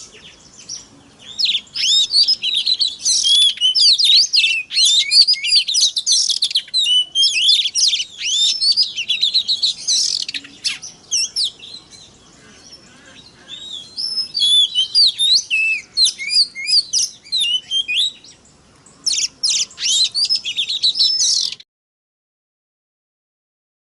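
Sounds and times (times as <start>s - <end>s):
bird singing whistles and chirps: 0.0s - 21.6s.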